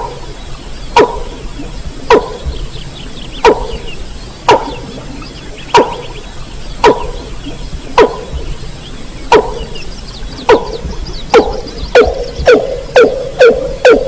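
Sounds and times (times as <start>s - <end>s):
faint high chirping: 0.0s - 14.0s.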